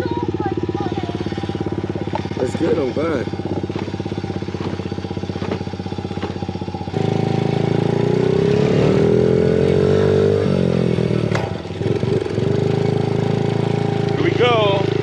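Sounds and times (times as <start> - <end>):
mini motorcycle engine revving: 0.0 - 15.0.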